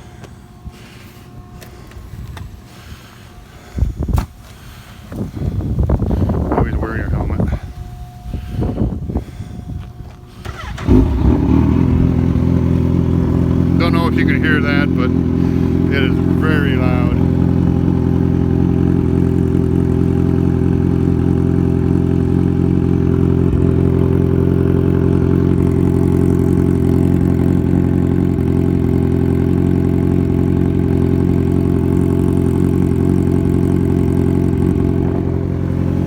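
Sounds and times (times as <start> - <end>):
motorcycle engine idling loudly: 5.5 - 36.0.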